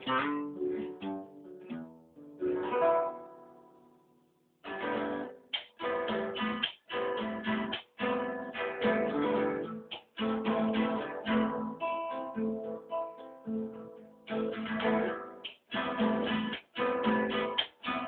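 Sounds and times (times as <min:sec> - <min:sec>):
acoustic guitar strumming: 0:00.0 - 0:03.9, 0:04.6 - 0:18.0.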